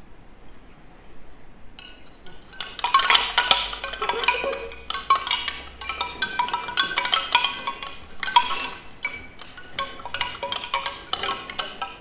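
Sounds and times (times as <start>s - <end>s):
wooden wind chime clattering: 1.8s - 12.0s.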